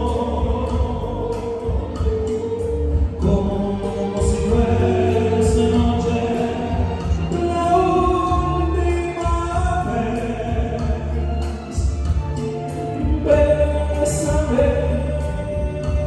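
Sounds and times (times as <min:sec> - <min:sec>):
amplified backing music: 0:00.0 - 0:16.0
man singing into microphone: 0:00.0 - 0:16.0.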